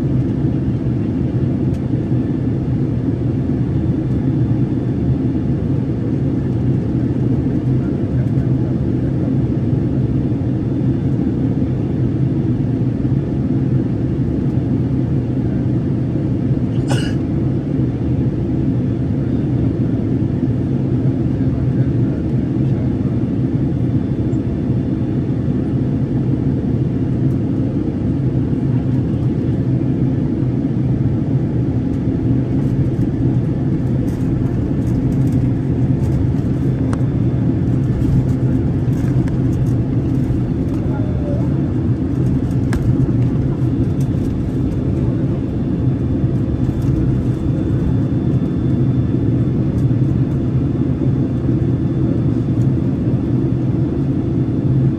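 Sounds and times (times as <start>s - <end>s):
airplane cabin noise: 0.0s - 54.9s.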